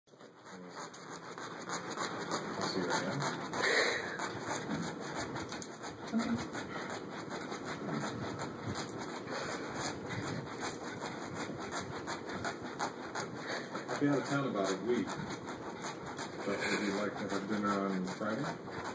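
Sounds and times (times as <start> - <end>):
dog scratching sofa cushions: 0.2 - 18.9.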